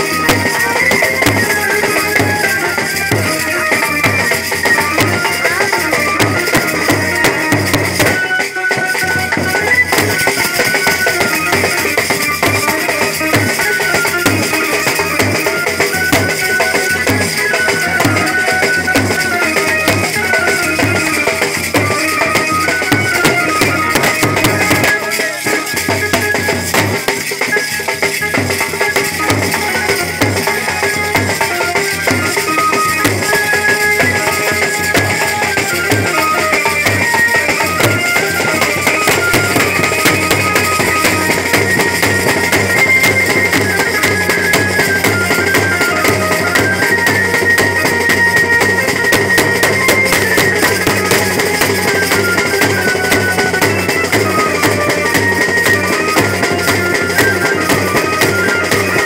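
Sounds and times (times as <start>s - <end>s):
banjo melody: 0.0s - 59.0s.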